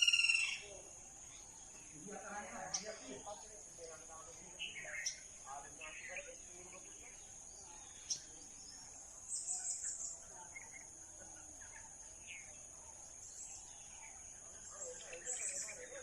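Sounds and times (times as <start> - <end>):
bird chirps: 0.0 - 16.0
high-pitched insect chorus: 0.0 - 16.0.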